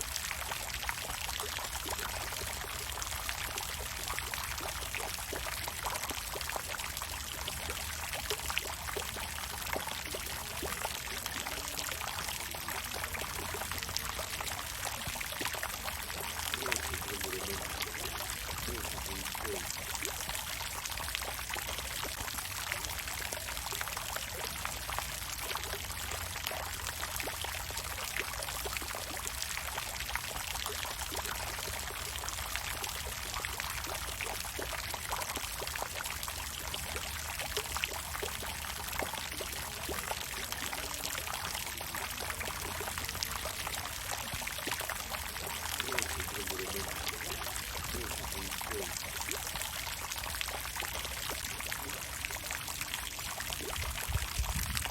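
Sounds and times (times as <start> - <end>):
water fountain splashing: 0.0 - 54.9.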